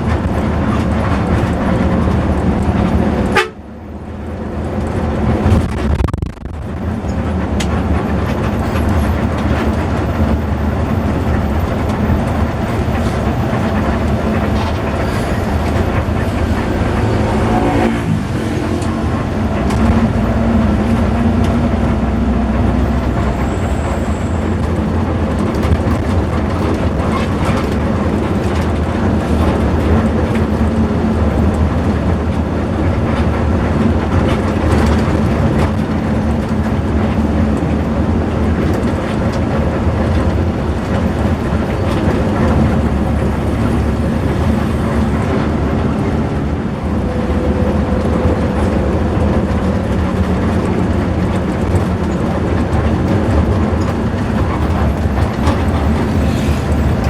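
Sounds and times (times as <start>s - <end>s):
bus engine drone: 0.0s - 57.0s
low road rumble: 0.0s - 57.0s.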